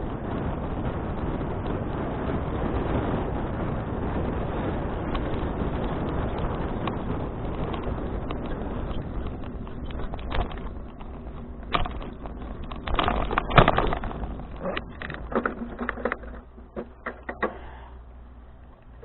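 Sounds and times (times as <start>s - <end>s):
bicycle rattling and clicking: 0.0s - 17.8s
low wind rumble: 0.0s - 19.0s.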